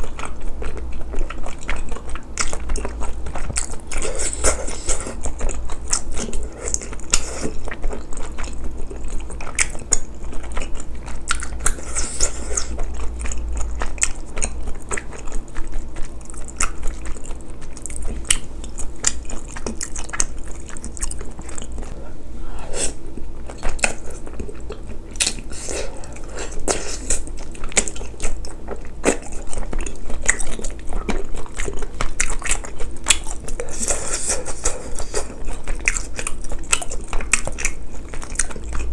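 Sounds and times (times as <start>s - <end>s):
person chewing: 0.0s - 38.9s.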